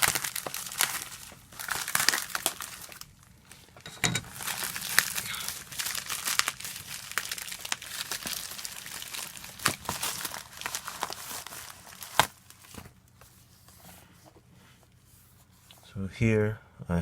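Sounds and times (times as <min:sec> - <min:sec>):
packaging crinkling and tearing: 0:00.0 - 0:13.6.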